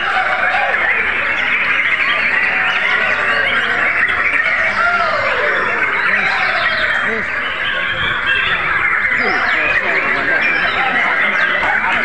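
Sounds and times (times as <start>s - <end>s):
chorus of birds singing: 0.0s - 12.0s.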